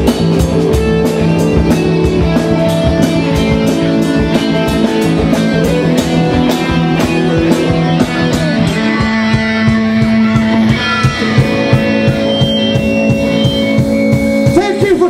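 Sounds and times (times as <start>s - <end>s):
drum kit beat: 0.0s - 15.0s
electric guitars playing chords: 0.0s - 15.0s.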